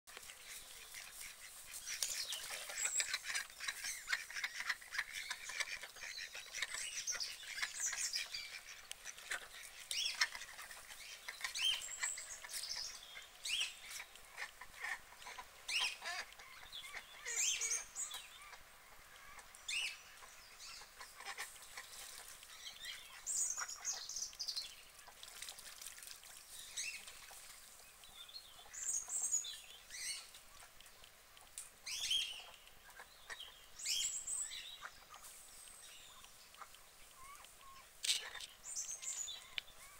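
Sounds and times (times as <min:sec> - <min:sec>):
birds chirping: 0:00.1 - 0:25.2, 0:31.8 - 0:39.9.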